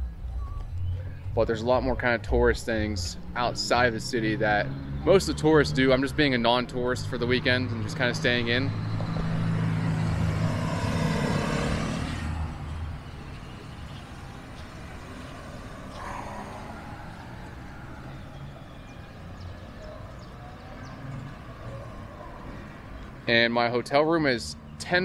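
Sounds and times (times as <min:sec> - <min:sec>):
faint traffic: 0:00.0 - 0:25.0
motorcycles passing: 0:01.1 - 0:25.0.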